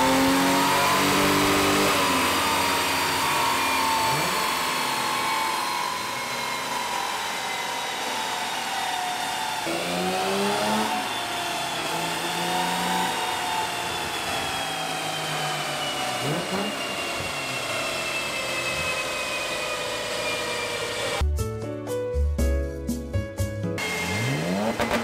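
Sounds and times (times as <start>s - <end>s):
car engine running under load: 0.0s - 21.2s.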